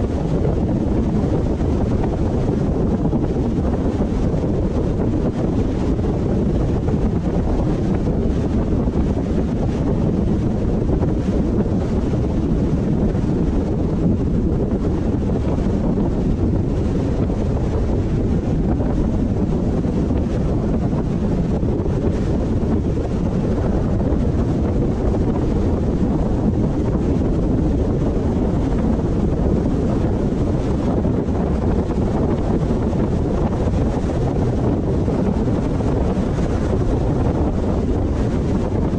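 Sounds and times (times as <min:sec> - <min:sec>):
car road and wind noise: 0:00.0 - 0:38.9
wind buffeting microphone: 0:00.0 - 0:38.9.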